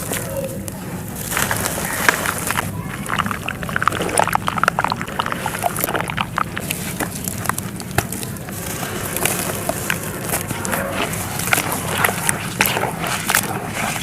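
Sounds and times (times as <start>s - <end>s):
dry sand-clay crumbling and crunching: 0.0s - 14.0s.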